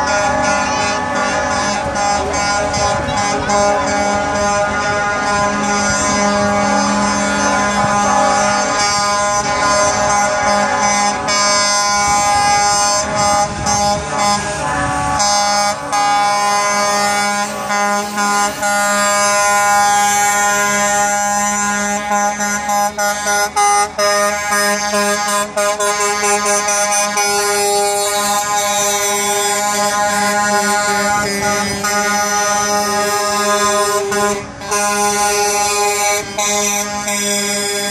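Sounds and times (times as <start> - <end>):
truck air horns blowing: 0.0 - 37.9.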